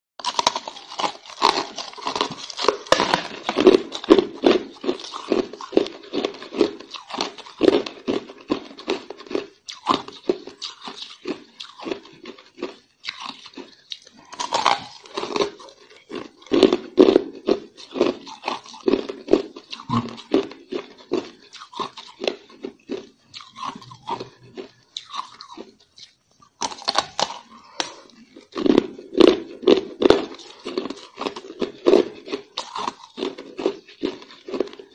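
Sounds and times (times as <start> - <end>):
ice crunching between teeth: 0.2 - 34.9.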